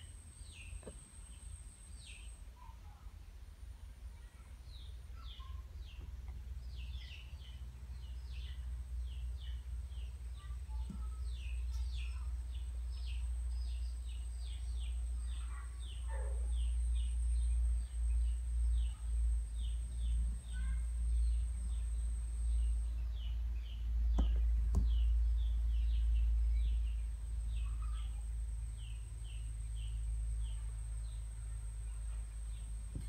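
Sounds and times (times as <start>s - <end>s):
small birds chirping: 0.0s - 3.2s, 3.8s - 33.0s
faint high whine: 0.0s - 33.0s.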